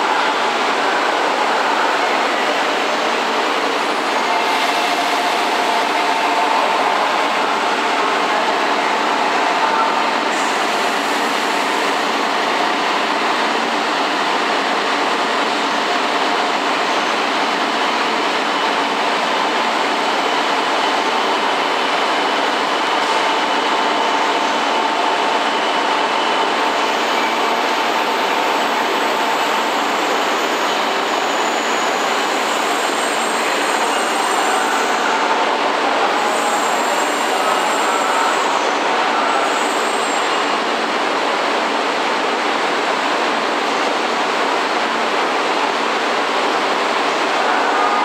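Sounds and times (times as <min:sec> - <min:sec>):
trains running at platform: 0:00.0 - 0:48.0.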